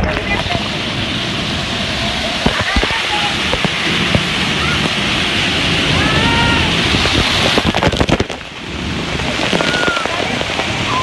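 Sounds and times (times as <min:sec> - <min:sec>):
water splashes: 0:00.0 - 0:11.0
waterfall rushing: 0:00.0 - 0:11.0.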